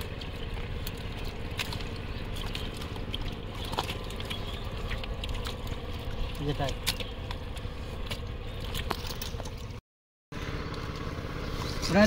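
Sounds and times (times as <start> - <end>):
steady low rumble: 0.0 - 9.8
wet mud squelching: 0.0 - 9.8, 10.4 - 12.0.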